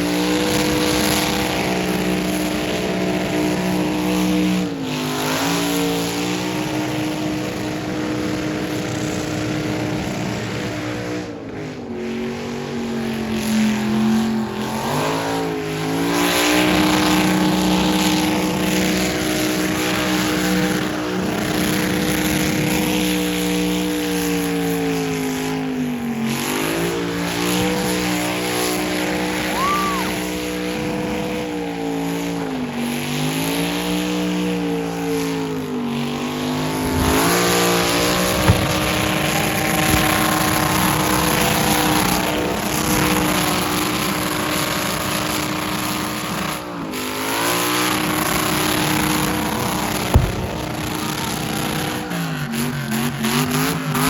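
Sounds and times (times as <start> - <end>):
car engine revving high: 0.0 - 54.0.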